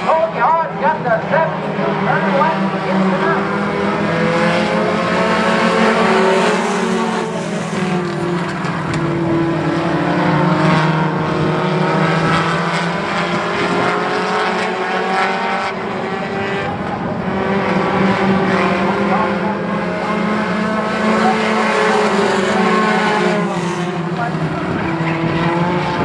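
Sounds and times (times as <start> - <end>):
race car engines passing: 0.0 - 26.0.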